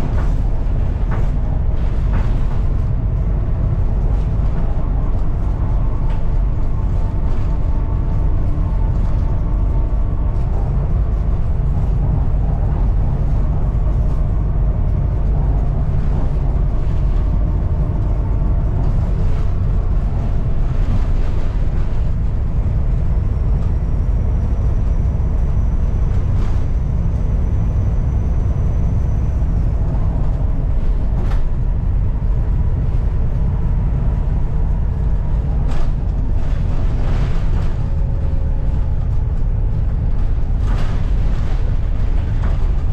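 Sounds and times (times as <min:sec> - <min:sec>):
bus body knocking and rattling: 0:00.0 - 0:42.9
bus engine drone: 0:00.0 - 0:42.9.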